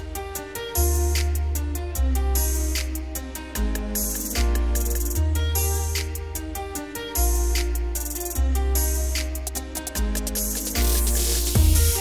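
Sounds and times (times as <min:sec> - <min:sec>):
deep bass line: 0:00.0 - 0:12.0.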